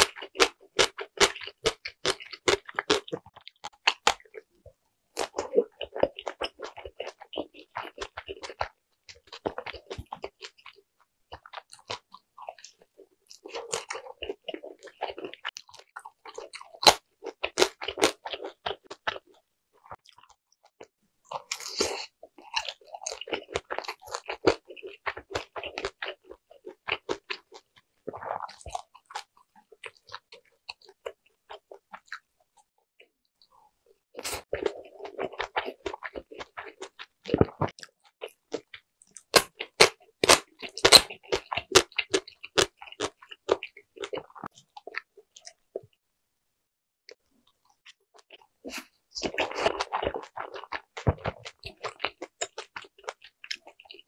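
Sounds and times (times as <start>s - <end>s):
crunchy chewing of dumplings: 0.0s - 46.0s, 47.1s - 54.0s.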